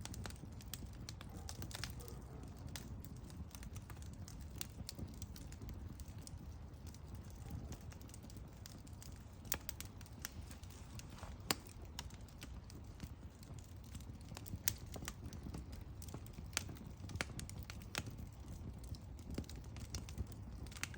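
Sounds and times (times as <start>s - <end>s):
low steady fire rumble: 0.0s - 20.9s
wood fire crackling: 0.0s - 20.9s.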